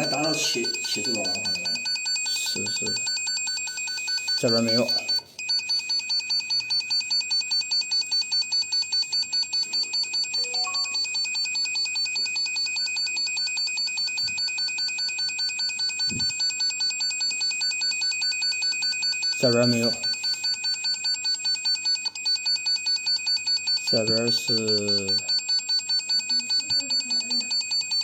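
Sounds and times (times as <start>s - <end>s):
wire tracer pulsing high beep: 0.0s - 28.0s.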